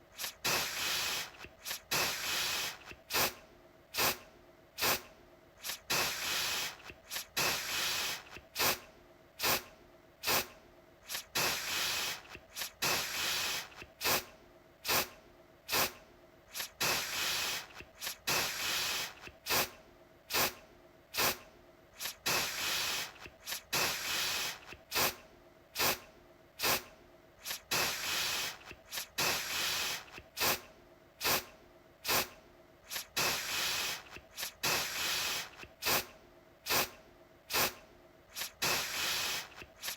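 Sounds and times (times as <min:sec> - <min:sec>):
aerosol can spraying: 0:00.1 - 0:03.4, 0:04.0 - 0:04.2, 0:04.8 - 0:08.8, 0:09.4 - 0:15.1, 0:15.7 - 0:20.6, 0:21.2 - 0:21.4, 0:22.0 - 0:25.2, 0:25.8 - 0:26.0, 0:26.6 - 0:36.1, 0:36.7 - 0:39.9.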